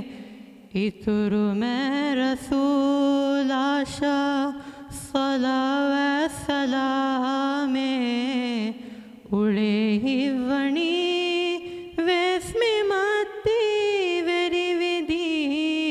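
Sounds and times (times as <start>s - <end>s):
boy singing devotional song: 0.0s - 15.9s.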